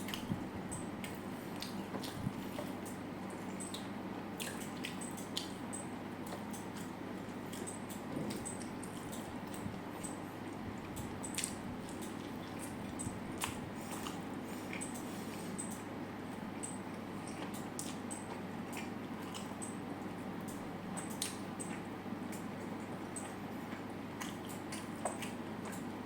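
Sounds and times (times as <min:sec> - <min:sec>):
soft chewing: 0:00.0 - 0:26.0.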